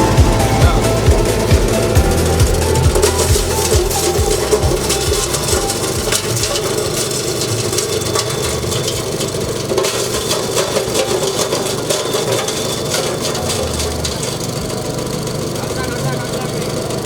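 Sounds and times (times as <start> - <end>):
ice shaving machine grinding: 0.0 - 17.0.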